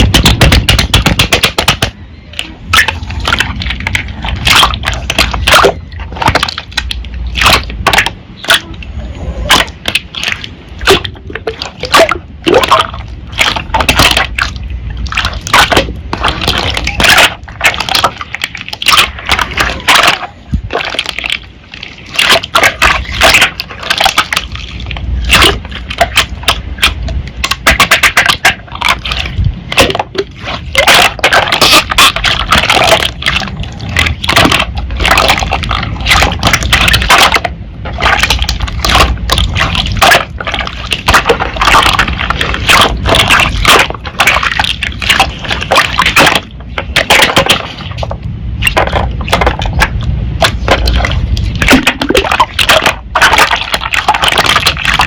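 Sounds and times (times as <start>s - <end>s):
slime squelching: 0.0s - 55.0s.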